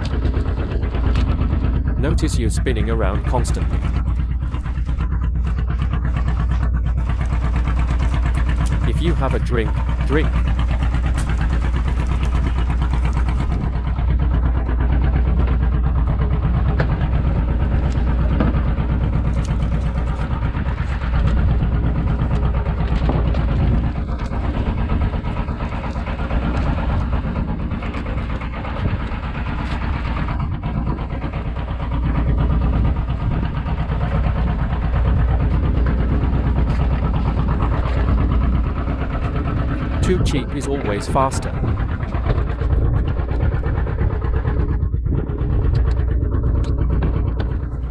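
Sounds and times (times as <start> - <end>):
boat engine idling: 0.0 - 47.9.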